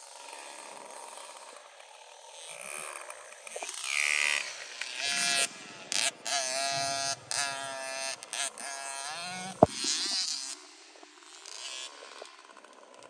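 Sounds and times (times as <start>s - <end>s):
dirt bike engine revving: 0.1s - 13.0s.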